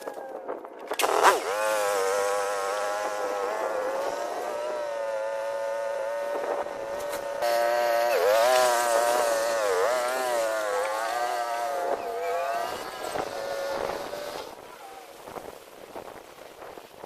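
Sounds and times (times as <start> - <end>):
small gasoline engine running: 0.9 - 15.5.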